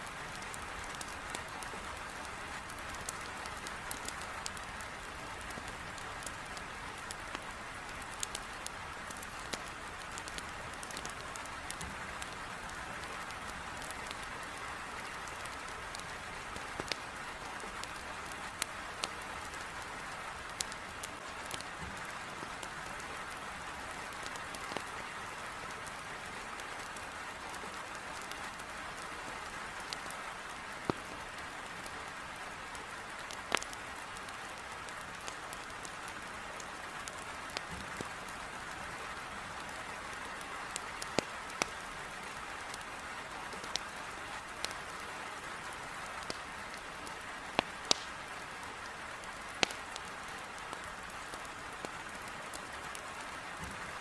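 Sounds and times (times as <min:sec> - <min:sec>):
heavy rain pattering: 0:00.0 - 0:54.0
wood fire crackling: 0:00.0 - 0:54.0.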